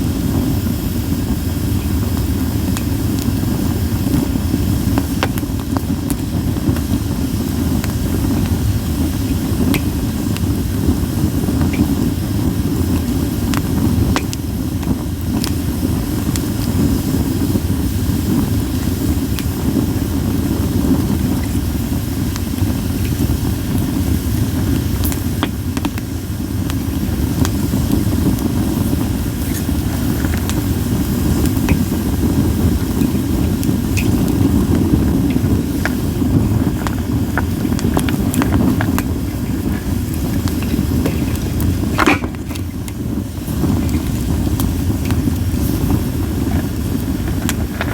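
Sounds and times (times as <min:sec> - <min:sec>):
campfire low rumble: 0:00.0 - 0:47.9
firewood crackling and popping: 0:00.0 - 0:47.9.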